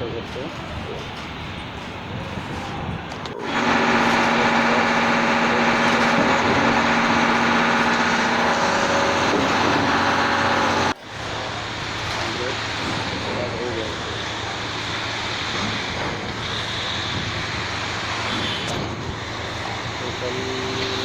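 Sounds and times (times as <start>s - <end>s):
construction site noise: 0.0s - 21.0s
diesel truck engine running: 0.0s - 21.0s.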